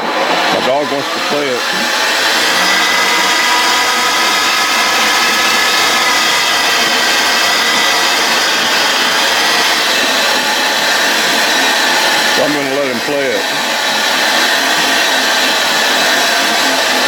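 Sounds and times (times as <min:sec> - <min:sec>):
ball launcher motors whirring: 0:00.0 - 0:17.0.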